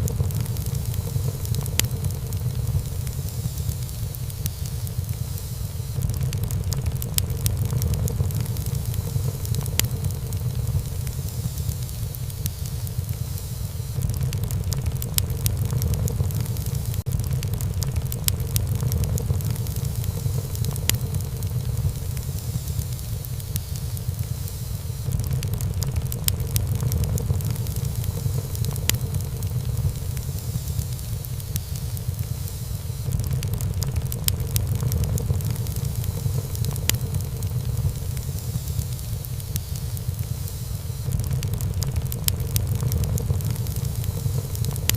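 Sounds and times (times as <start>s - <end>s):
low rumble of flames: 0.0s - 44.9s
wood crackling and popping: 0.0s - 44.9s.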